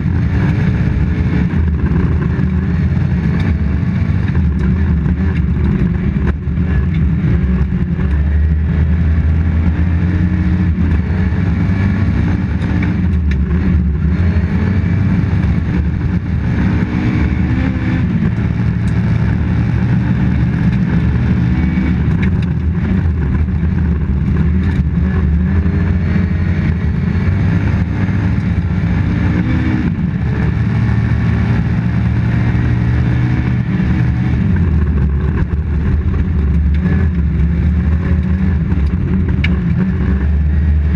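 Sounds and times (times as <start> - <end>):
car engine revving hard: 0.0 - 40.9
tyre and road noise: 0.0 - 40.9.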